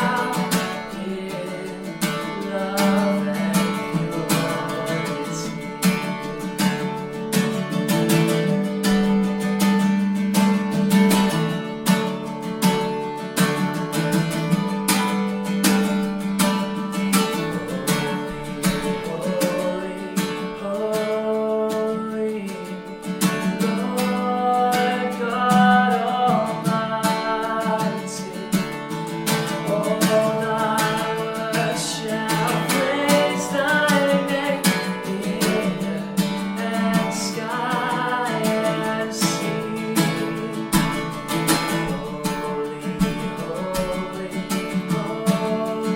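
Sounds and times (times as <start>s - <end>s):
person singing: 0.0s - 10.0s, 15.6s - 45.9s
acoustic guitar strumming: 0.0s - 45.9s.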